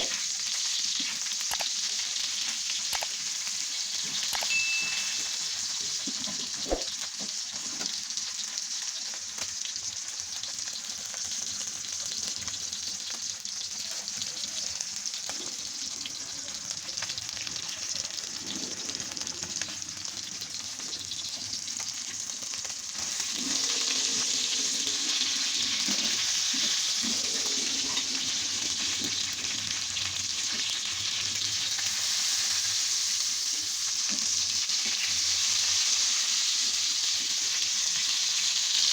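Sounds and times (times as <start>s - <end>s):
hot oil sizzling in a pan: 0.0s - 38.9s.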